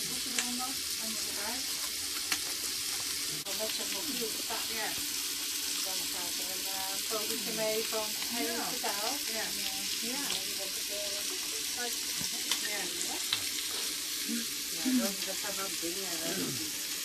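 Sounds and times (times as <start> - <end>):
meat sizzling on a griddle: 0.0 - 17.0.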